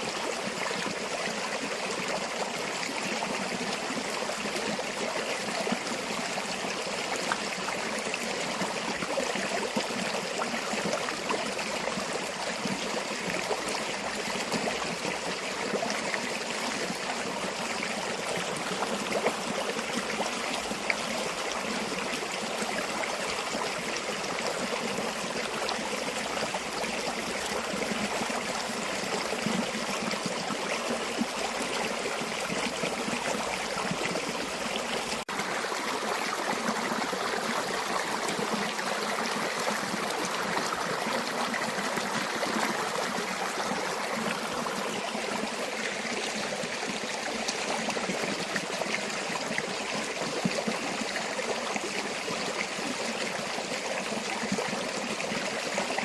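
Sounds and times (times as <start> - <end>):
stream babbling over stones: 0.0 - 56.0.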